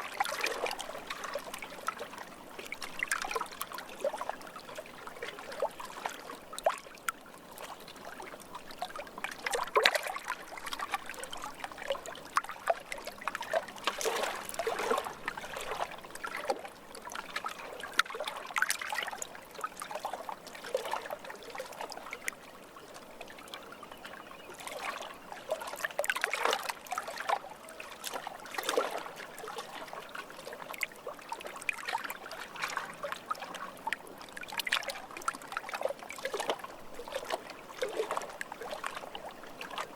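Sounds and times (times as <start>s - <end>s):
lake water lapping at shore: 0.0s - 22.3s, 24.1s - 39.9s.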